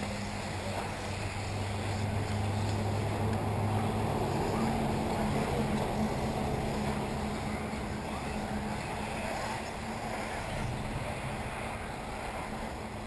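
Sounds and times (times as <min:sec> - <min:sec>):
constant low hum: 0:00.0 - 0:13.0
rc cars motor and tyre noise: 0:00.0 - 0:13.0.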